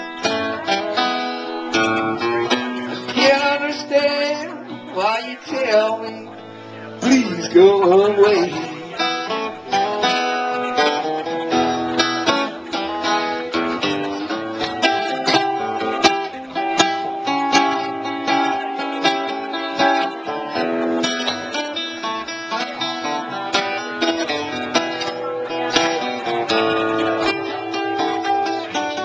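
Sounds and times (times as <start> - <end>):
acoustic guitar picking: 0.0 - 29.0.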